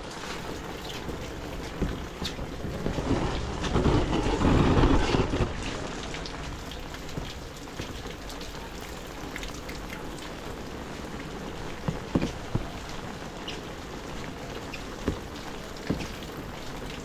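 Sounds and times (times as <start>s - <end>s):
water drips: 0.0s - 3.1s, 5.7s - 17.0s
heavy rain falling: 0.0s - 17.0s.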